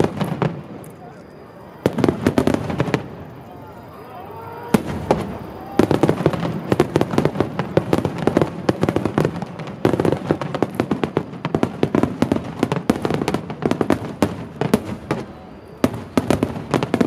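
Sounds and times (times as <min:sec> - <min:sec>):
firework shells bursting: 0:00.0 - 0:15.2
firework crackle: 0:00.0 - 0:17.0.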